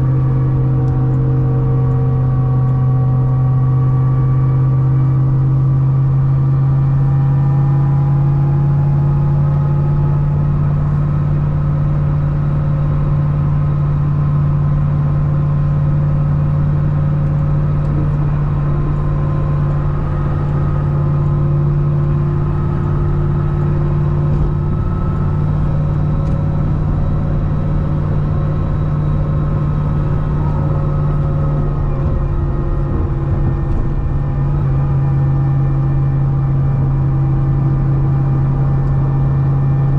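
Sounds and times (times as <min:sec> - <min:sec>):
car engine cruising drone: 0:00.0 - 0:39.9.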